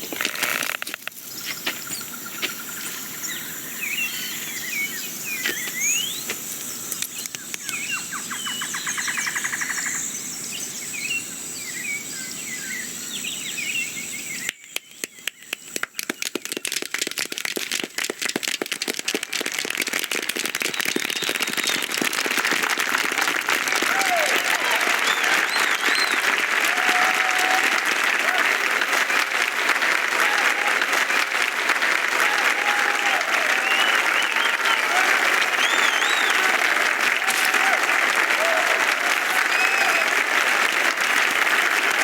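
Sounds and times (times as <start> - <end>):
outdoor hiss: 0.0 - 16.2, 17.0 - 42.0
birds chirping: 0.0 - 16.4, 20.6 - 22.0, 23.4 - 42.0.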